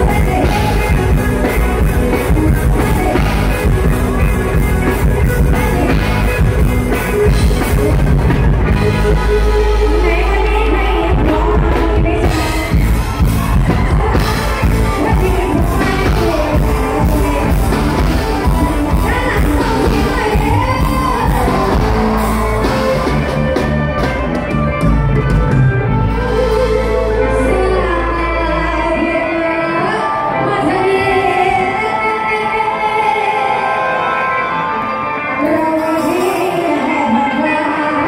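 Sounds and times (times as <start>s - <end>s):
woman singing: 0.0s - 23.0s, 26.1s - 33.9s, 35.4s - 38.0s
heavy bass: 0.0s - 31.9s.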